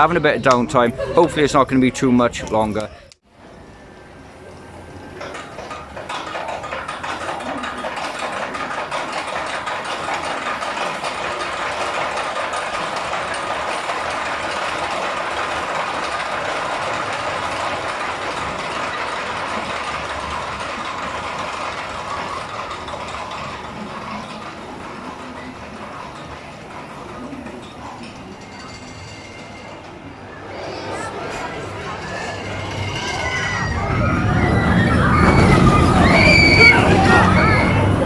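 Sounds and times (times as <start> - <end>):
roller coaster rattling on track: 0.0 - 38.0.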